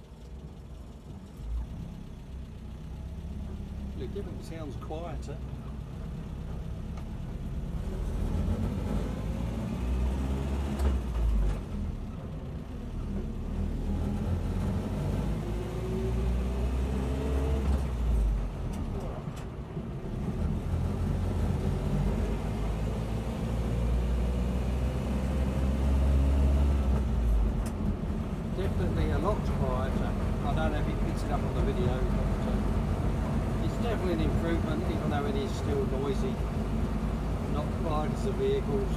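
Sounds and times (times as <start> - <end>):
engine purring inside vehicle cab: 0.0 - 38.9.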